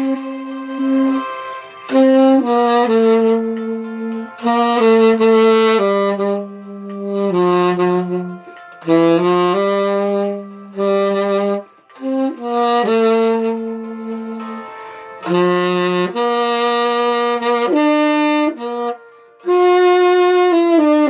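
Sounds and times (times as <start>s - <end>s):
saxophone slow melody: 0.0s - 21.0s.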